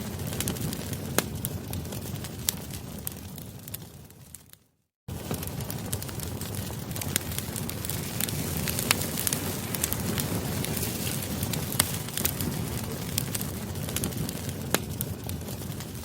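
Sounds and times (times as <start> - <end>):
campfire flames rushing: 0.0 - 16.0
wood crackling and popping: 0.0 - 16.0.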